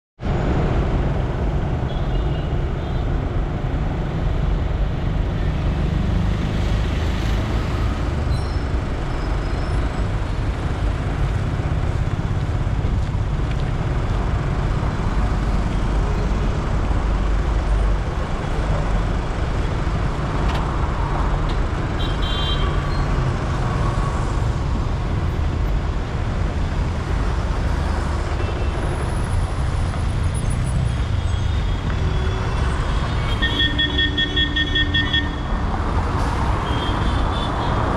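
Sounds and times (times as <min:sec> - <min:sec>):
traffic rumble of engines and tyres: 0:00.2 - 0:37.9.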